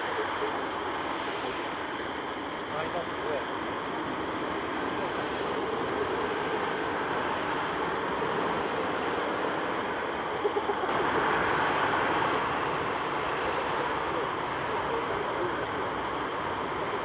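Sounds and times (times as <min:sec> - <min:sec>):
jet engine taxiing: 0:00.0 - 0:17.0.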